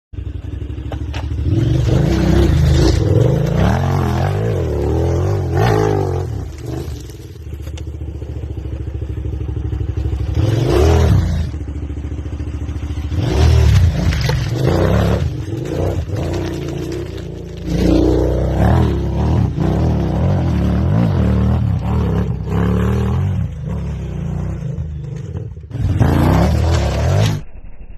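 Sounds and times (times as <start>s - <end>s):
motorcycle engine revving: 0.2s - 27.5s.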